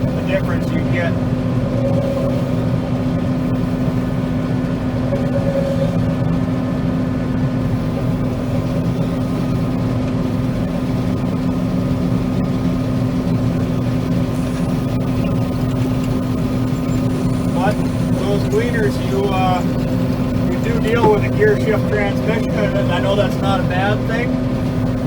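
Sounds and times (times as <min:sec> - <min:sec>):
combine harvester engine drone: 0:00.0 - 0:25.0.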